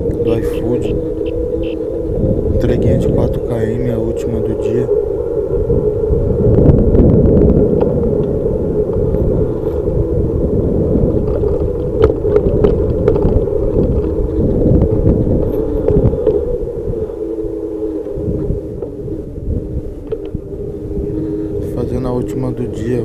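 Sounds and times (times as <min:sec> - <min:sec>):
bicycle rolling on pavement: 0:00.0 - 0:23.0
wind buffeting microphone: 0:00.0 - 0:23.0.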